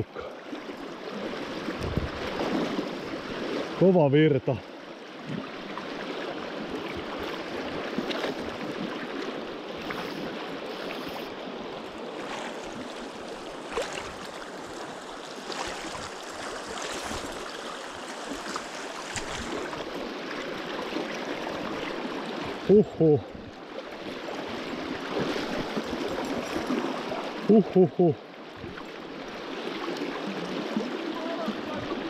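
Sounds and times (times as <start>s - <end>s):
river rapid rushing water: 0.0s - 32.0s.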